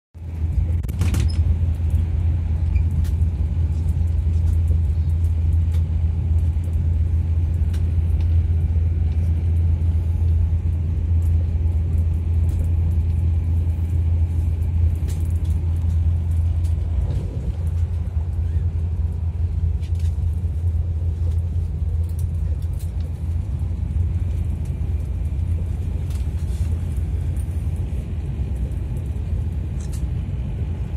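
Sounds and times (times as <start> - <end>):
train rumbling inside carriage: 0.2 - 30.9.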